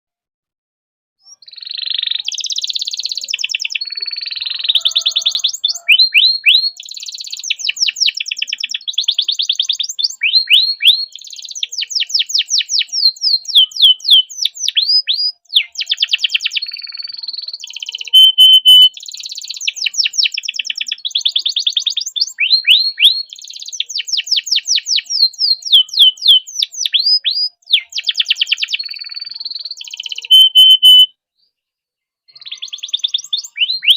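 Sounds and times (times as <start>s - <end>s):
canary singing: 1.2s - 31.1s, 32.3s - 33.9s.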